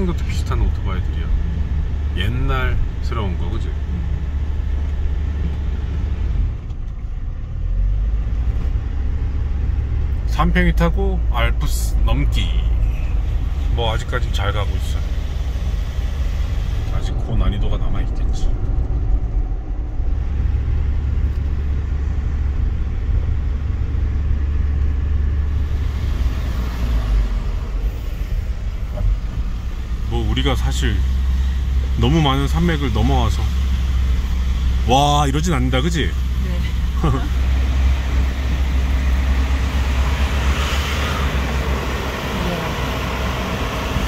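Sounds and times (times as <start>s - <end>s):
road noise: 0.0s - 44.0s
van engine rumble: 0.0s - 44.0s.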